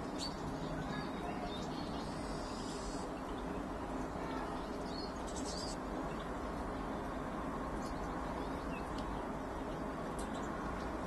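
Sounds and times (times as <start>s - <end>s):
small birds chirping: 0.0s - 11.0s
steady low background noise: 0.0s - 11.0s.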